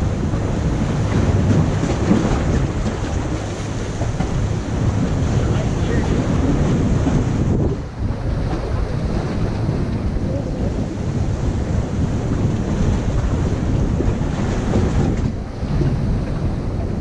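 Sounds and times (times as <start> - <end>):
surf against rocks: 0.0 - 17.0
wind buffeting microphone: 0.0 - 17.0.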